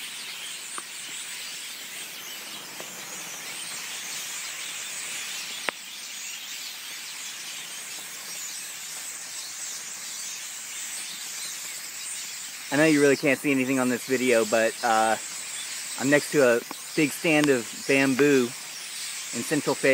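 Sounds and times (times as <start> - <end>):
flock of birds chirping: 0.0 - 19.9.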